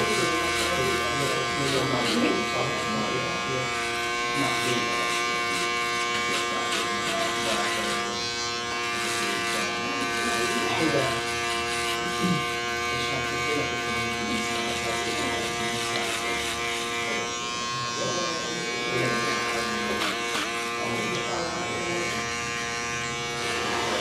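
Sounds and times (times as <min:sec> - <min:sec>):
electric beard trimmer buzzing: 0:00.0 - 0:24.0.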